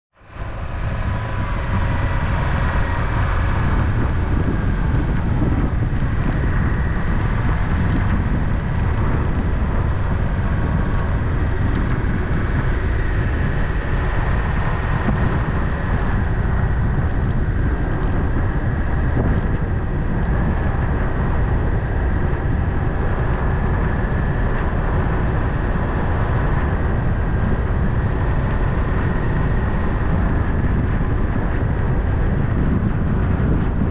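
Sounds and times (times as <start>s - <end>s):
car tyre and engine noise: 0.1s - 33.9s.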